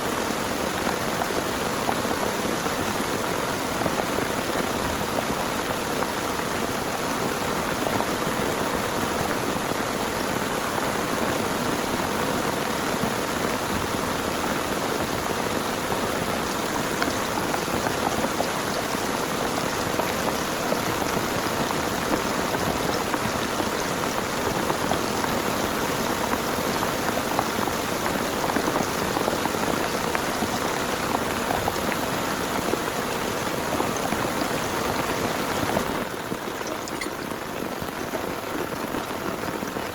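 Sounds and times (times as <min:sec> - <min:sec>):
heavy rain: 0:00.0 - 0:39.9
raindrops ticking on surfaces: 0:00.0 - 0:39.9.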